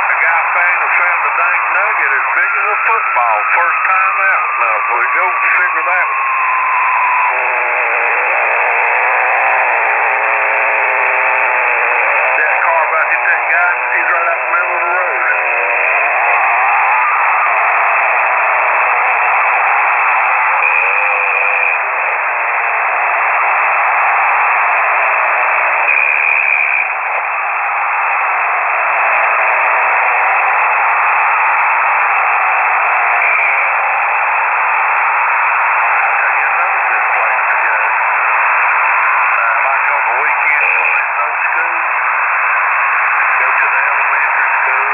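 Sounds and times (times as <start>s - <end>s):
faint radio whistles: 0.0s - 8.6s, 12.1s - 44.9s
radio static hiss: 0.0s - 44.9s.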